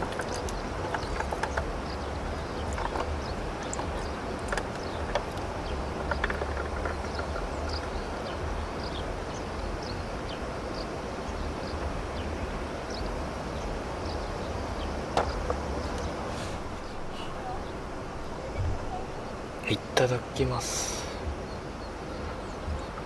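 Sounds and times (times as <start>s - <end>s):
wind on microphone: 0.0s - 19.6s.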